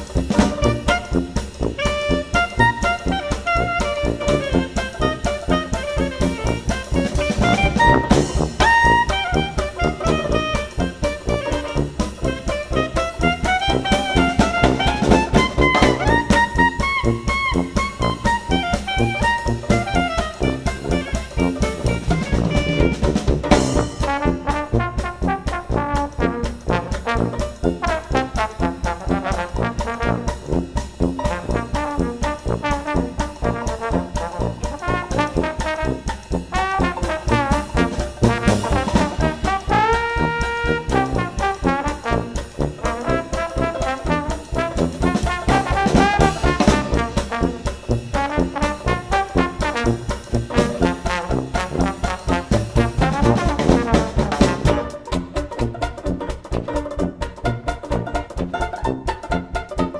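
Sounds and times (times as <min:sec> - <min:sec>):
instrumental music with beat: 0:00.0 - 0:59.9.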